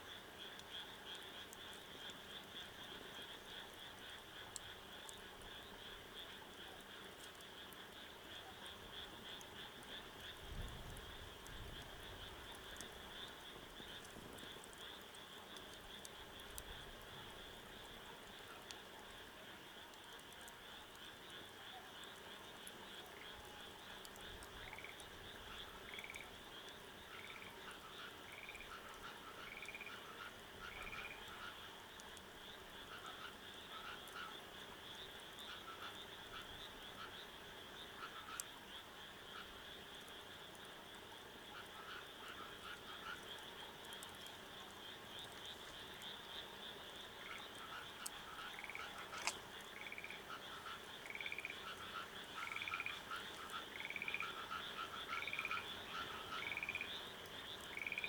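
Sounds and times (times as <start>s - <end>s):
frogs trilling chorus: 0.0s - 58.0s.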